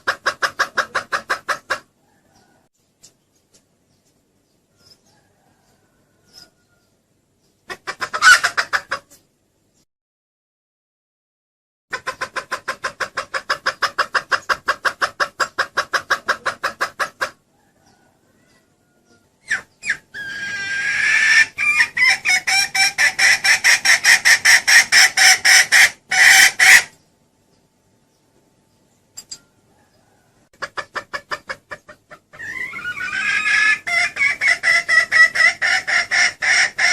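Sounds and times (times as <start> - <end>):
hen clucking: 0.0 - 9.3, 11.9 - 27.7, 29.2 - 36.9.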